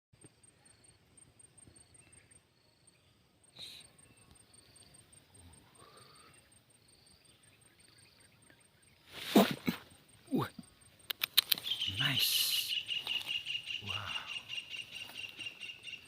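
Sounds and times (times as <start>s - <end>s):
slower lower insect chirp: 0.2s - 16.0s
high thin insect chirping: 0.3s - 16.0s.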